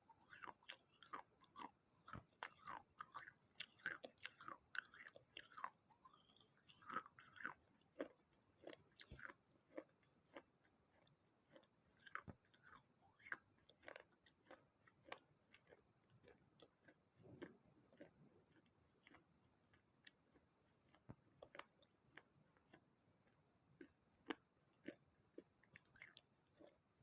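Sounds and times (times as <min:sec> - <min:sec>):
chewing crunching clay: 0:00.0 - 0:27.0.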